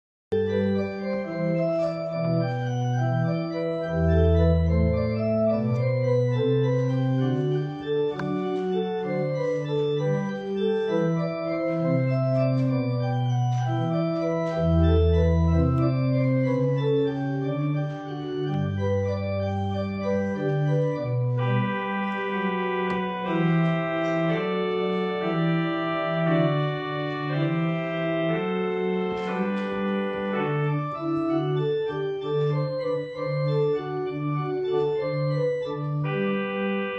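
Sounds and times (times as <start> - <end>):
deep organ pedal notes: 0.3 - 36.9
organ playing chords: 0.3 - 36.9.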